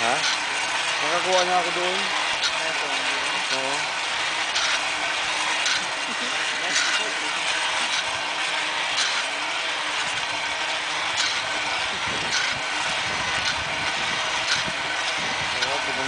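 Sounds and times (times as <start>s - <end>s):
cable lift mechanical rushing: 0.0s - 16.0s.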